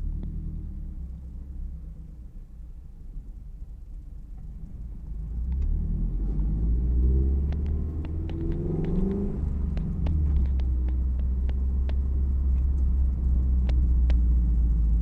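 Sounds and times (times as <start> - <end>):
car engine rumbling and revving: 0.0 - 15.0.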